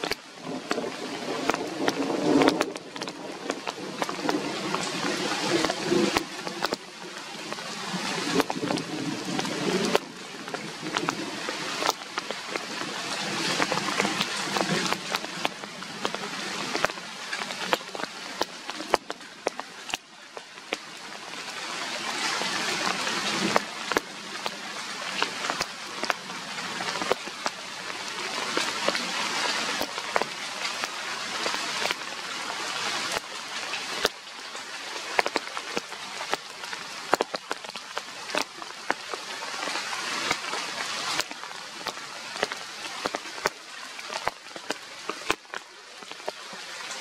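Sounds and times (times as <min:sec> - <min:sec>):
rain falling: 0:00.0 - 0:47.0
raindrops tapping surfaces: 0:00.0 - 0:47.0.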